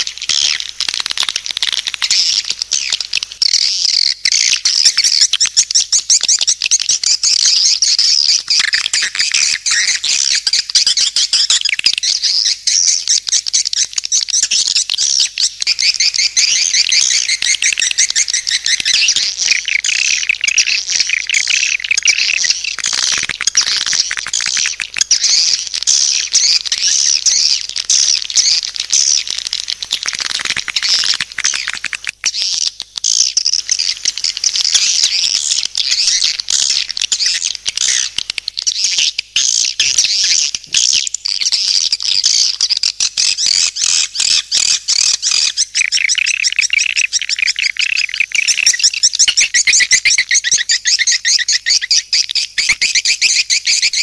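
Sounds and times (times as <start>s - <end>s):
birds chirping and twittering: 0.0s - 54.0s.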